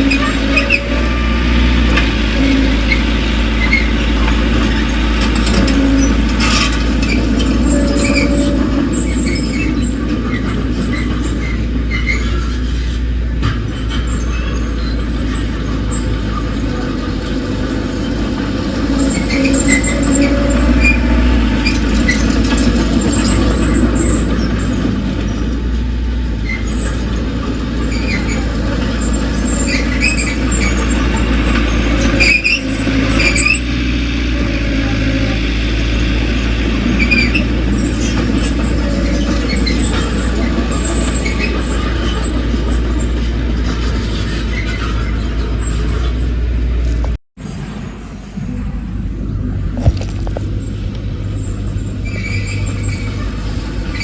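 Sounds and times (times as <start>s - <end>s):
bulldozer diesel engine: 0.0s - 54.0s
bulldozer jolt: 0.0s - 54.0s
steel tracks squeaking: 0.0s - 54.0s.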